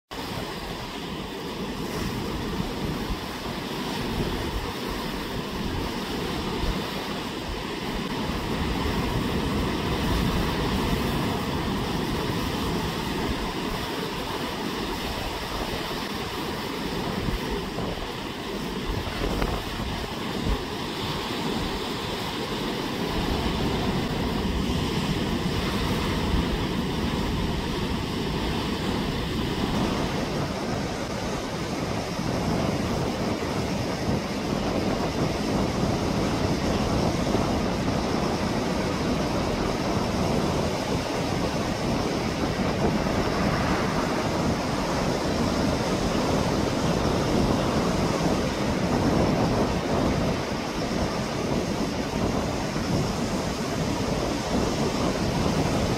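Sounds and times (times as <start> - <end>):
heavy surf breaking over rocks: 0.1 - 55.9.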